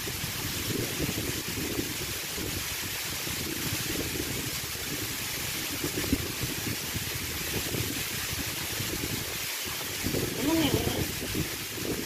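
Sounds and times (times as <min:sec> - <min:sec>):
waterfall splashing onto rock: 0:00.0 - 0:12.0.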